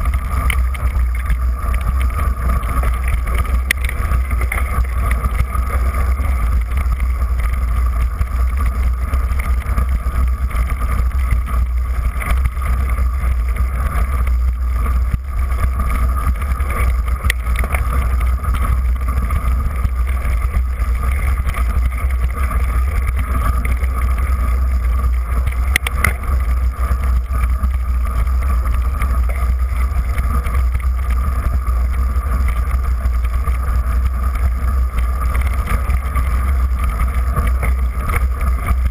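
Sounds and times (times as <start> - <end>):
wind and vibration rumble: 0.0 - 38.9.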